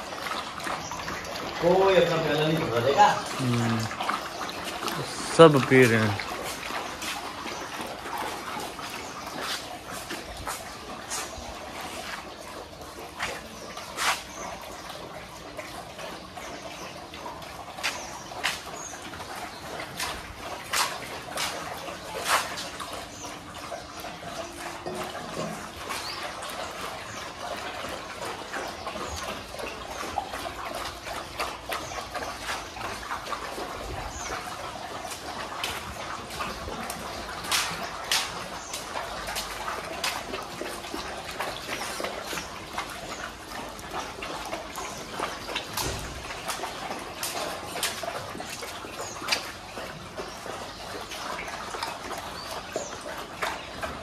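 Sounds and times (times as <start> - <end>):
dogs lapping milk: 0.0 - 54.0.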